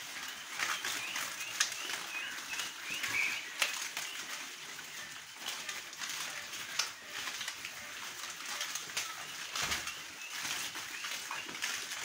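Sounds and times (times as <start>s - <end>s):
rustling and clicking: 0.0s - 12.0s.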